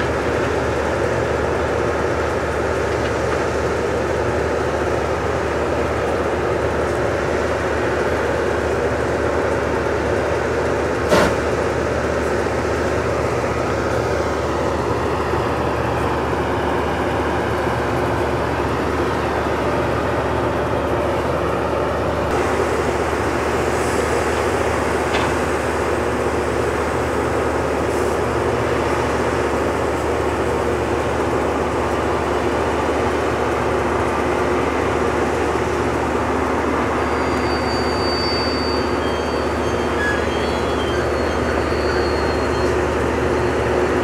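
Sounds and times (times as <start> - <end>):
train machinery rumbling: 0.0 - 44.0.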